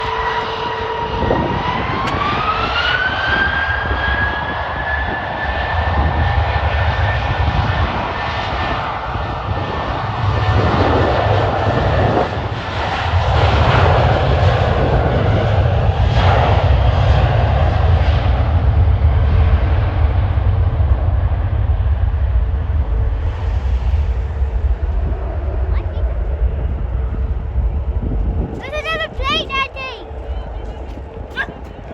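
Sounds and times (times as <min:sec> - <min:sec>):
jet engine high whine: 0:00.0 - 0:31.9.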